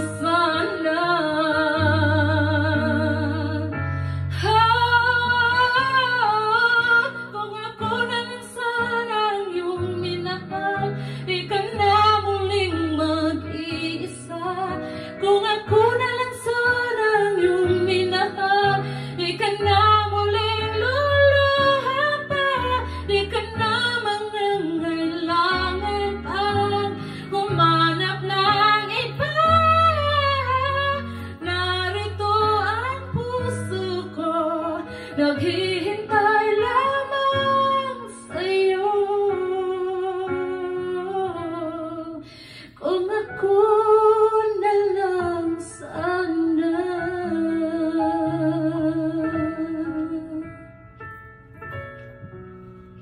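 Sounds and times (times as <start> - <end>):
woman singing a ballad: 0.0 - 51.0
instrumental backing track: 0.0 - 53.0.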